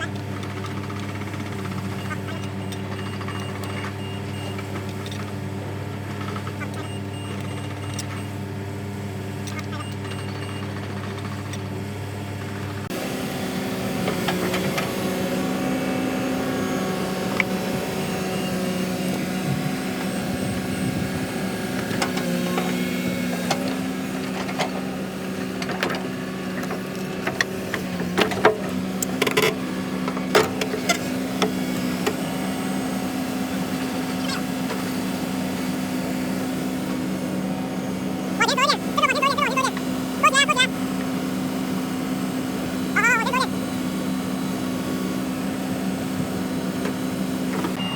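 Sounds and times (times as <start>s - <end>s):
heavy machine engine running: 0.0s - 47.9s.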